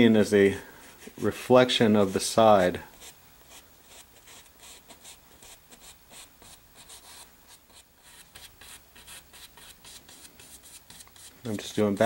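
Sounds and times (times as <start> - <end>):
paintbrush scratching on canvas: 0.9 - 12.0.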